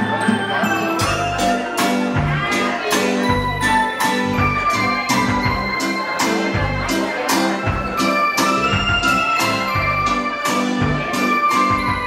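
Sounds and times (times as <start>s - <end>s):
waltz music: 0.0s - 12.0s.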